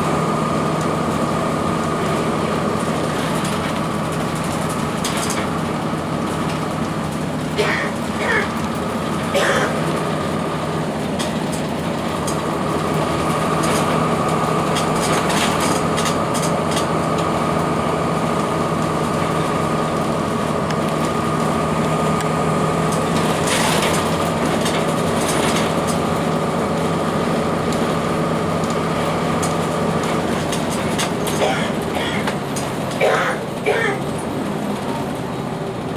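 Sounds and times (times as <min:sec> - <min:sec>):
bus diesel engine running: 0:00.0 - 0:35.9
rattles and clicks: 0:02.0 - 0:10.4, 0:11.0 - 0:17.3, 0:18.8 - 0:34.9.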